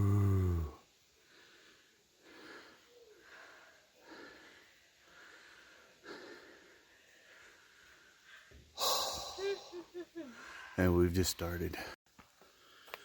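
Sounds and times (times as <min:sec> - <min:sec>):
heavy rasping breaths: 0:00.0 - 0:10.8.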